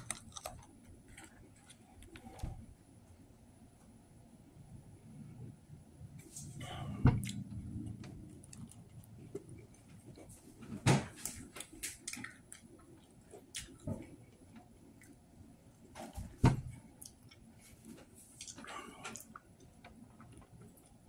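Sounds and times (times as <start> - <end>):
faint eating sounds: 0.0 - 4.0, 4.7 - 21.0.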